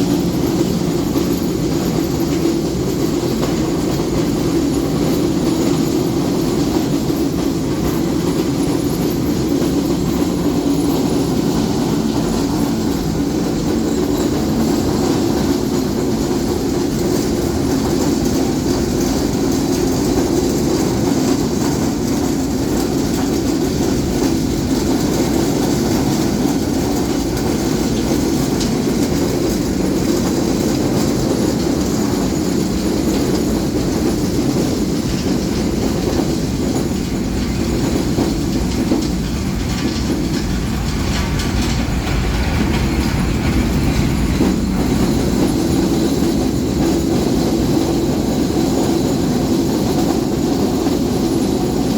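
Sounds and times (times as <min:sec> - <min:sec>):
roller mill grinding rumble: 0:00.0 - 0:50.8.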